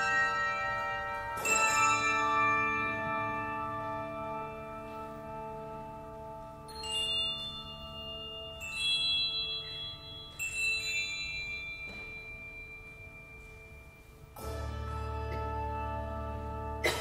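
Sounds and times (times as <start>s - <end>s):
handbells ringing: 0.0s - 14.6s.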